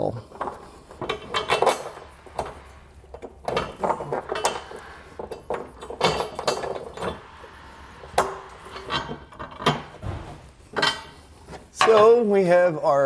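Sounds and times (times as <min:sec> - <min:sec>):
steel hardware clinking: 0:00.2 - 0:12.3.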